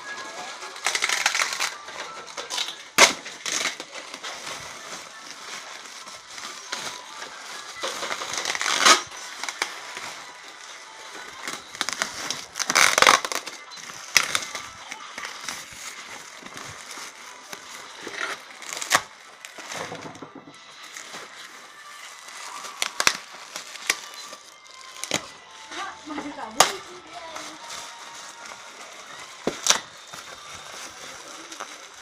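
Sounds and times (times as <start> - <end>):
packing wrap crinkling: 0.0 - 32.0.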